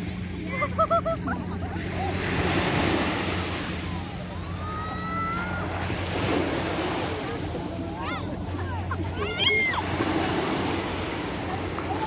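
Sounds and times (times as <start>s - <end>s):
small waves washing onto sand: 1.6s - 12.0s.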